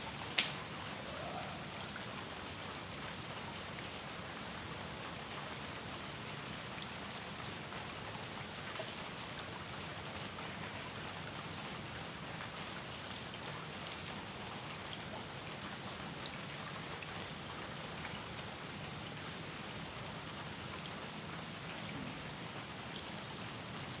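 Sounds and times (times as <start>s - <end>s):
rain falling on a pond: 0.0s - 24.0s.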